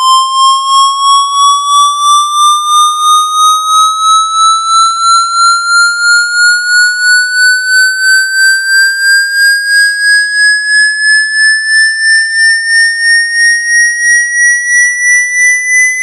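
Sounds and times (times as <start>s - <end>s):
pulsing rising test tone: 0.0s - 16.0s.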